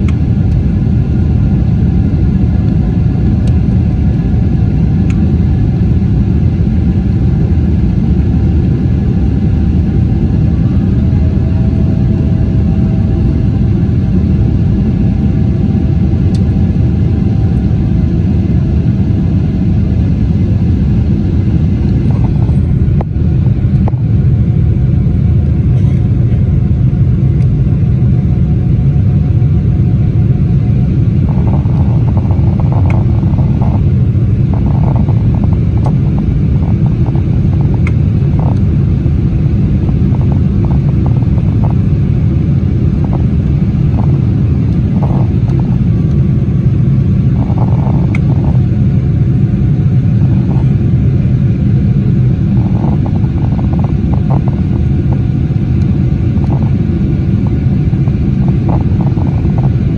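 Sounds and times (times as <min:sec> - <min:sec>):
faint whine: 0:00.0 - 0:59.9
jet engines rumbling: 0:00.0 - 0:59.9.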